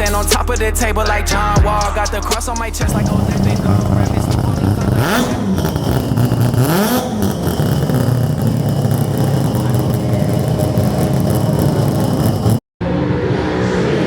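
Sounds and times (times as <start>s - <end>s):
car engine revving hard: 0.0s - 12.6s.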